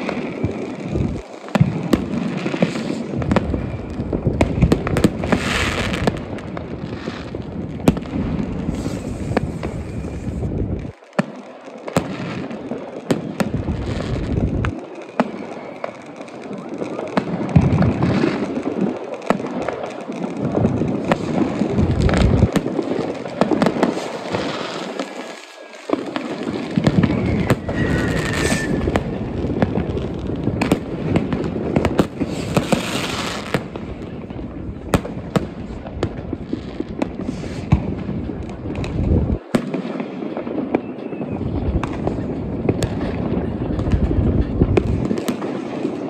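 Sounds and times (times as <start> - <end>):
firework whistle: 0.0 - 11.0, 11.9 - 18.6, 21.0 - 34.2, 36.6 - 46.0
firecrackers crackling: 0.0 - 46.0.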